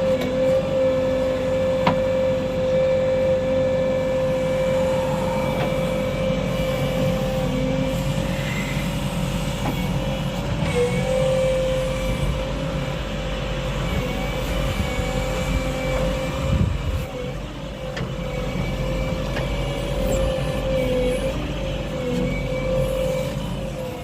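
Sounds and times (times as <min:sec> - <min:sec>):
diesel engine running: 0:00.0 - 0:24.0
steady whine: 0:00.0 - 0:24.0.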